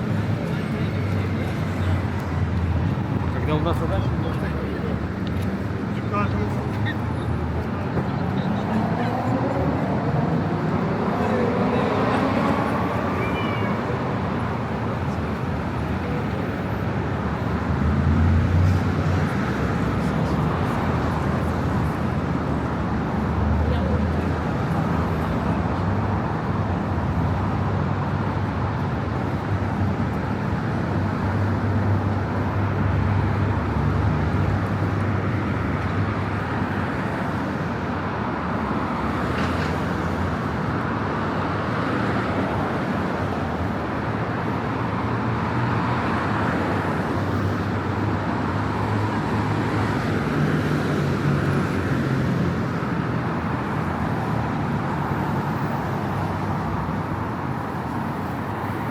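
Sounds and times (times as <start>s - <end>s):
cars passing on busy street: 0.0s - 58.9s.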